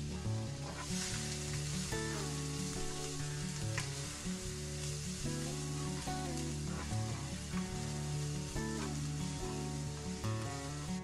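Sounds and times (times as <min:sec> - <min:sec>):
background music: 0:00.0 - 0:11.0
onion sizzling in hot oil: 0:00.0 - 0:11.0.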